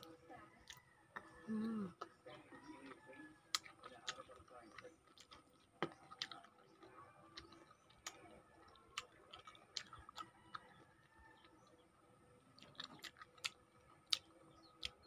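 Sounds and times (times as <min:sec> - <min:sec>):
mouth chewing wet clicks: 0:00.0 - 0:15.0.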